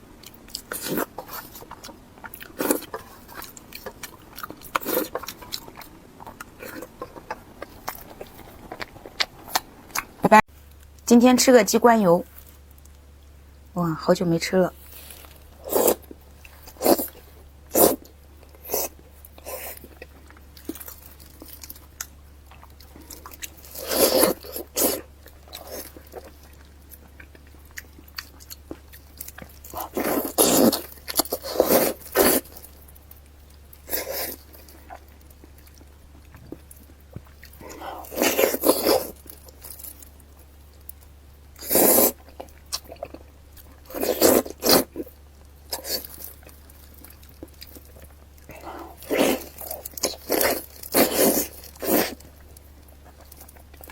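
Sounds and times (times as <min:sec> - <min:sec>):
wet chewing and biting: 0:00.0 - 0:10.4, 0:14.9 - 0:53.9.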